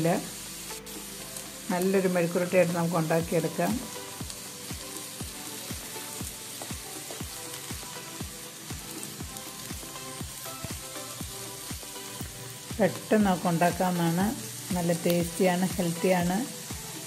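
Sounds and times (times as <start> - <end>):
oil sizzling in a pan: 0.0 - 17.0
background music with a beat: 0.4 - 1.7, 3.2 - 13.4, 14.2 - 17.0.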